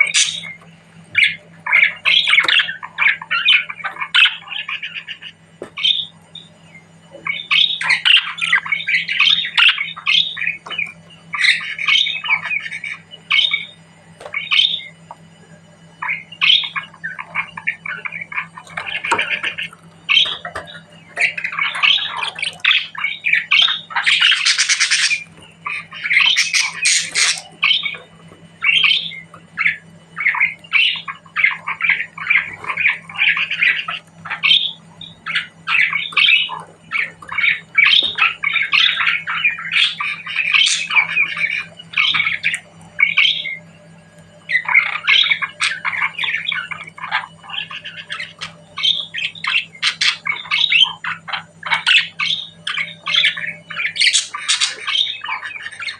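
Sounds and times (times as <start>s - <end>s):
budgerigars chattering: 0.0s - 6.5s, 7.1s - 15.0s, 16.0s - 43.6s, 44.5s - 55.9s.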